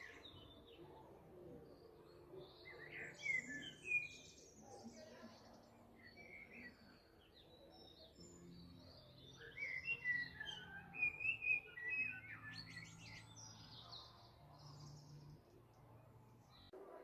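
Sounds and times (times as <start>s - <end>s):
small birds chirping and singing: 0.0s - 16.8s.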